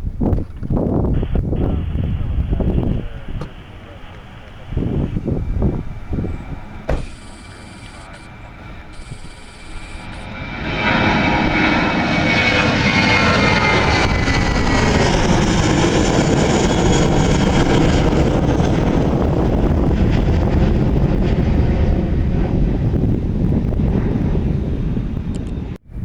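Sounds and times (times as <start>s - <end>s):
jet airliner engine roar: 0.0s - 26.0s
high engine whine falling: 0.6s - 25.7s.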